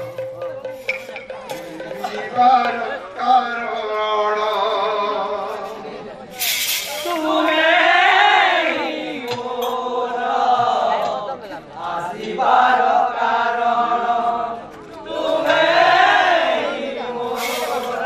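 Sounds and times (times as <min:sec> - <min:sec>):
men chanting devotional song: 0:00.6 - 0:06.2, 0:06.8 - 0:18.0.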